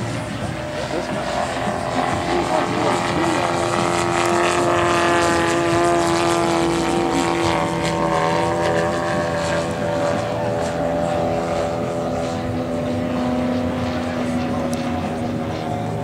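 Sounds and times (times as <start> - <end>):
model airplane engine drone: 0.0 - 16.0.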